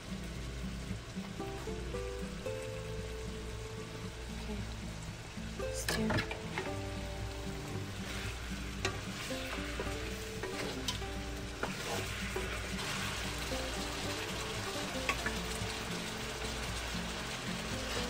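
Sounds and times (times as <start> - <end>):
background music: 0.0 - 18.0
meat sizzling in a frying pan: 0.0 - 18.0.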